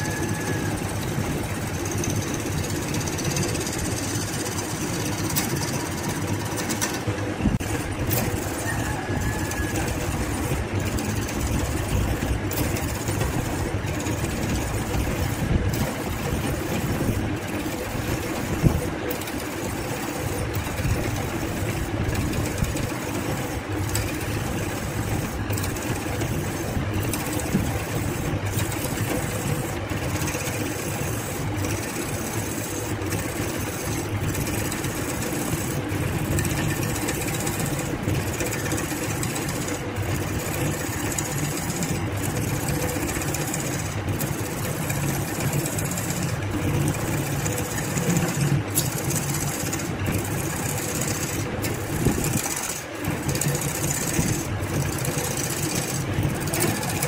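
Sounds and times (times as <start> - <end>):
lathe motor hum: 0.0 - 57.0
turning tool scraping: 0.0 - 57.0.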